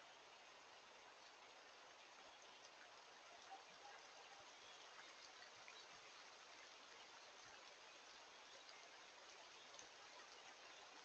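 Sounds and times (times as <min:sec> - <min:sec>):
light rain hiss: 0:00.0 - 0:11.0
soft drip ticks: 0:00.9 - 0:11.0.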